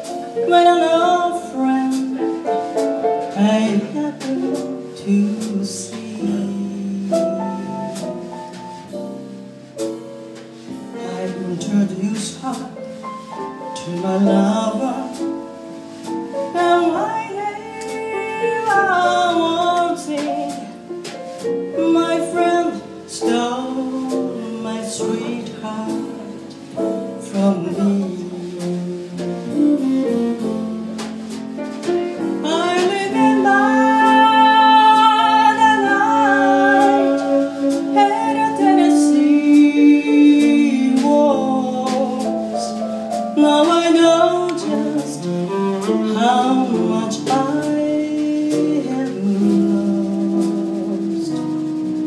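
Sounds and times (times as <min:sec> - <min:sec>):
jazz band playing: 0:00.0 - 0:52.0
woman singing jazz ballad: 0:00.0 - 0:52.0.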